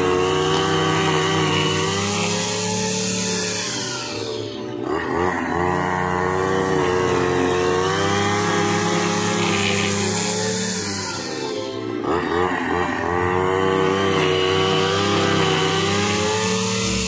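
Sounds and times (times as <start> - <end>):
brush cutter engine at high revs: 0.0 - 17.0.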